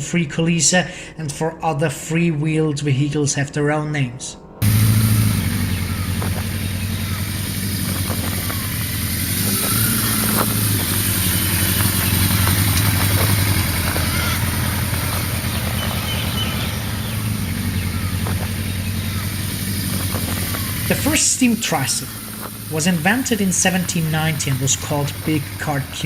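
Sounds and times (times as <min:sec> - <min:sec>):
motorcycle engine running at low revs: 0:04.6 - 0:26.0.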